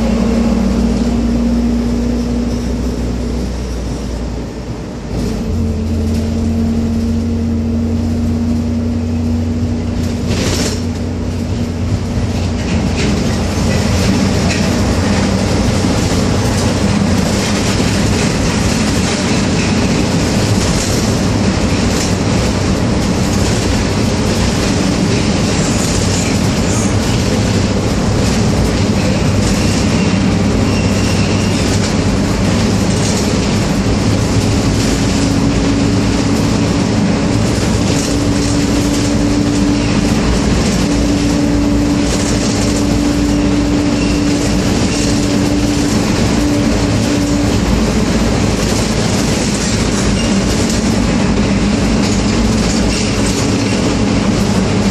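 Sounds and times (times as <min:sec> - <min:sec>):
engine and tyre drone: 0:00.0 - 0:54.9.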